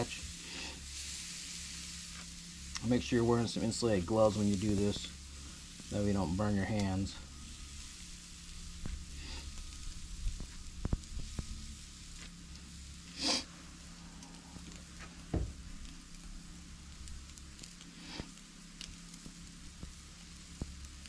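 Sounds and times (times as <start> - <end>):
steak sizzling on a grill: 0.0 - 21.0.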